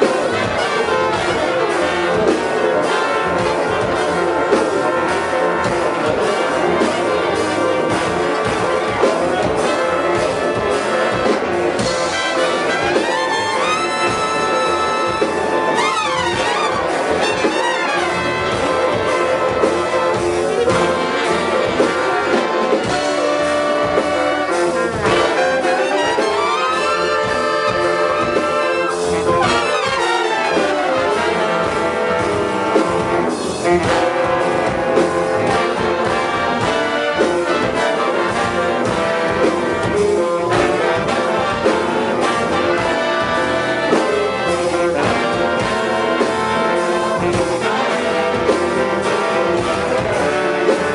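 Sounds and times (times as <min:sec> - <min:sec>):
improvised ensemble music: 0:00.0 - 0:50.9.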